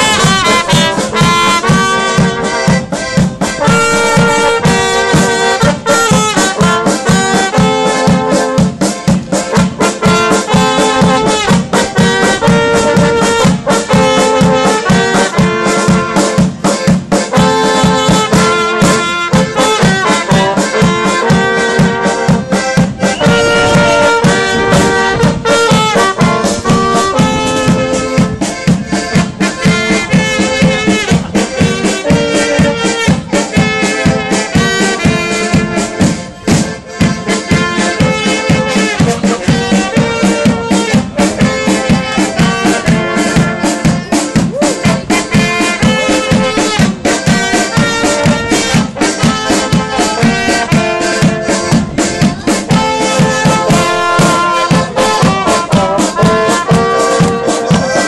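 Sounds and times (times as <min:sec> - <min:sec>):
brass band with accordion: 0:00.0 - 0:58.0.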